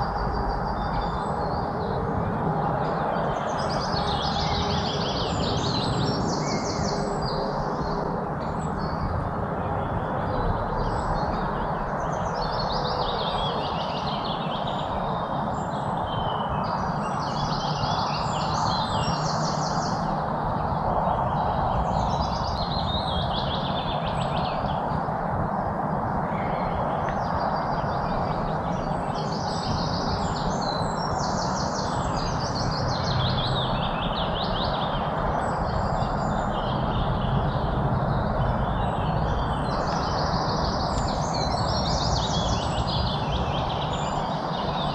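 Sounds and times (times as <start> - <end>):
low outdoor background rush: 0.0 - 44.9
songbirds chirping and singing: 0.0 - 44.9.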